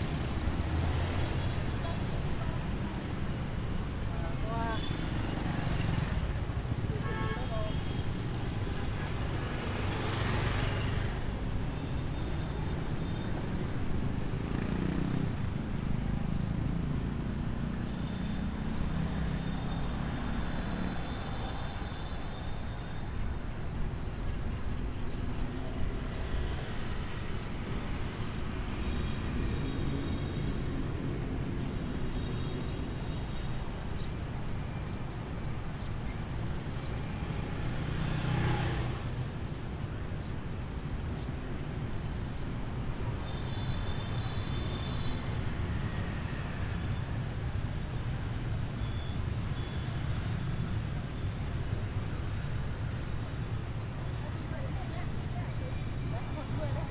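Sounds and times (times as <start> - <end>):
street traffic rumble: 0.0 - 56.9.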